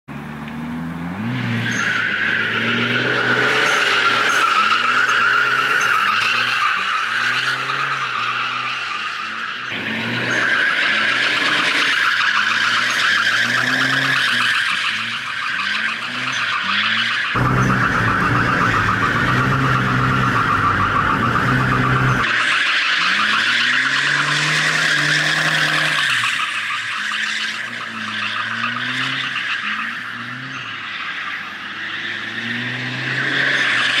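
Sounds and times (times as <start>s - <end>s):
car engine revving: 0.2s - 34.0s.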